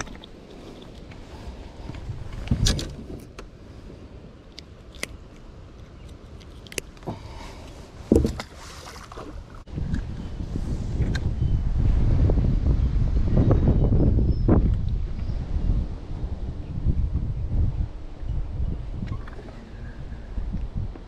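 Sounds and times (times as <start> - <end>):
wind noise on microphone: 0.0 - 4.3, 7.0 - 21.0.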